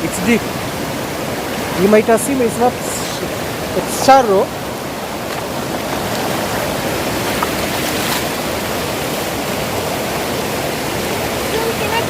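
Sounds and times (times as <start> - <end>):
water rushing over waterfall: 0.0 - 12.0.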